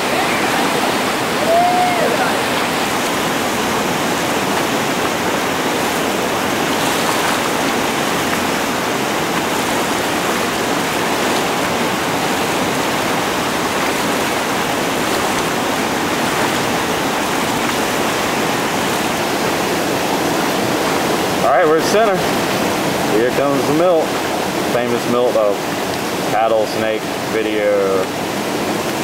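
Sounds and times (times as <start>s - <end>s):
whitewater rapids rushing: 0.0s - 29.0s.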